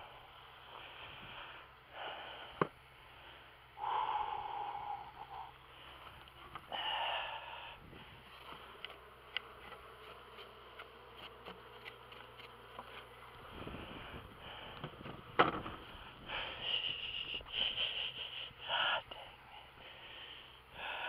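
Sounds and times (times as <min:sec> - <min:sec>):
honey bees buzzing: 0:00.0 - 0:21.0.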